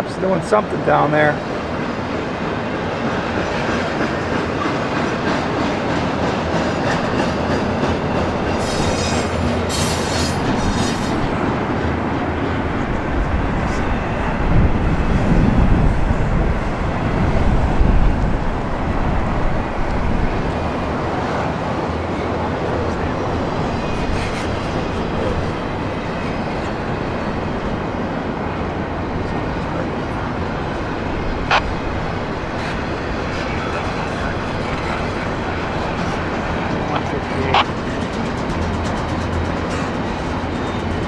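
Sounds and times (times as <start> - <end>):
freight train wheels clattering: 1.4 - 28.0, 28.9 - 41.0.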